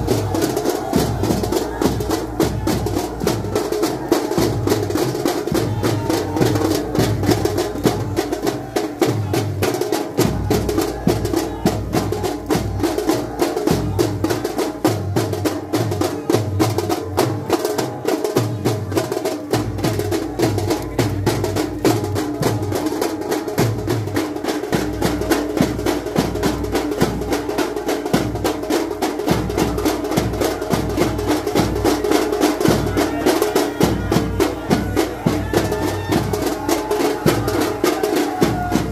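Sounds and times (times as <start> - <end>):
deep drum beats: 0.0 - 38.9.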